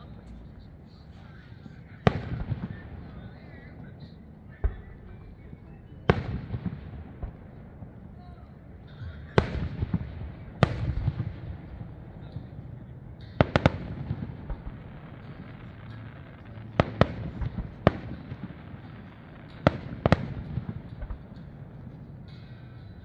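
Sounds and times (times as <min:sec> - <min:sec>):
fireworks bursting with sharp bangs: 0:00.0 - 0:23.0.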